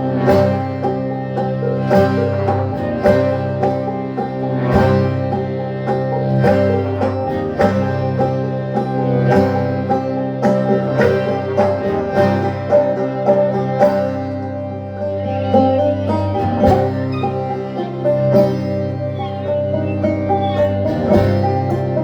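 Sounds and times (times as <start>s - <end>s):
plucked string music: 0.0s - 22.0s.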